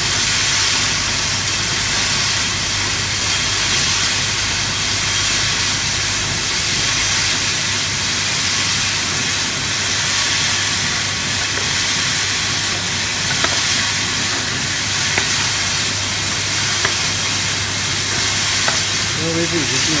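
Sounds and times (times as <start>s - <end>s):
printer hiss and hum: 0.0s - 20.0s.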